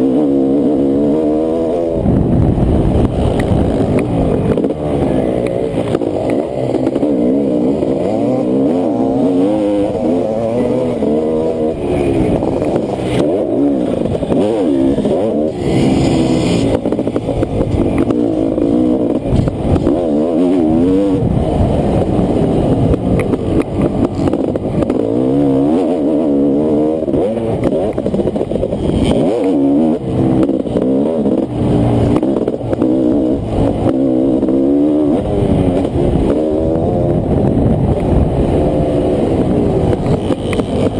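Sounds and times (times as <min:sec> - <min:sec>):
two-stroke motorcycle engine revving: 0:00.0 - 0:40.9.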